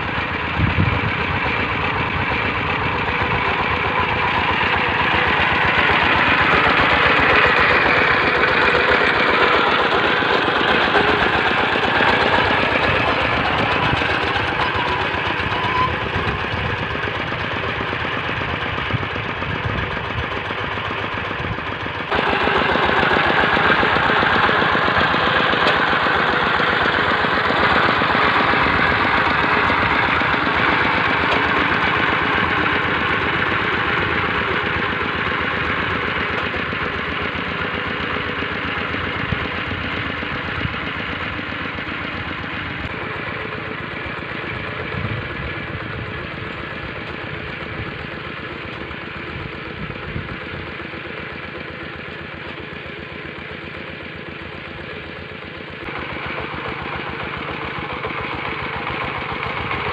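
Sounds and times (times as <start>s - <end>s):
walking tractor engine chugging: 0.0s - 59.9s.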